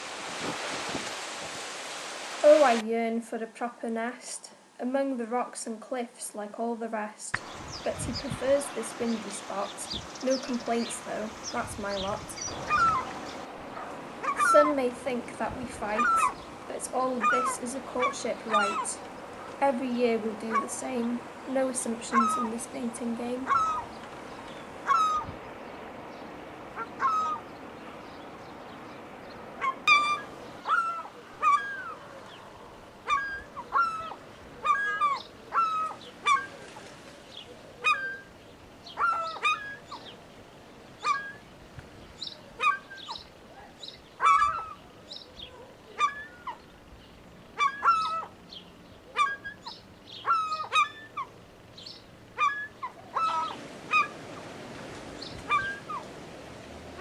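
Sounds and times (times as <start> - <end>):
gulls calling: 7.4 - 57.0.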